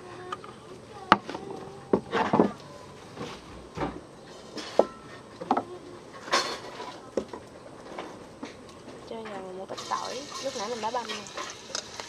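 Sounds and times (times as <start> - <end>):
firewood knocking and clattering: 1.1 - 12.0.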